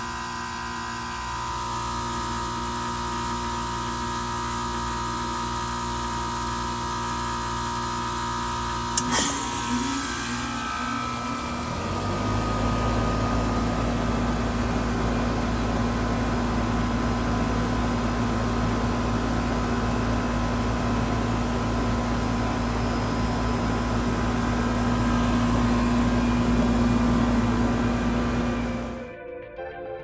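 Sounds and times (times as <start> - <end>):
low mechanical rumble: 0.0 - 29.0
heat pump electrical hum: 0.0 - 29.1.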